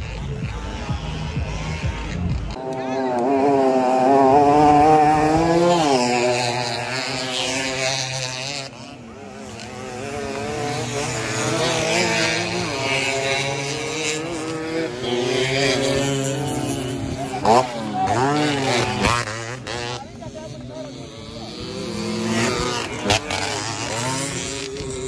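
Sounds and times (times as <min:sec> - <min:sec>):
two-stroke motorcycles racing: 0:00.0 - 0:25.0.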